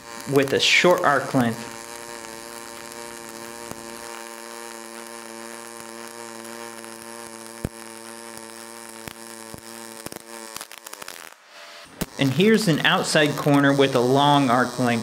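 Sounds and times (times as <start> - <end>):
sharp welding pops: 0.0 - 15.0
welding arc buzzing hum: 0.0 - 15.0.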